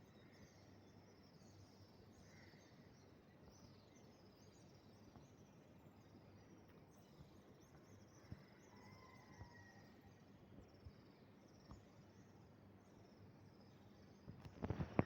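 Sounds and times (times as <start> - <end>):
faint bird chirps: 0.0 - 15.0
steady low background noise: 0.0 - 15.0.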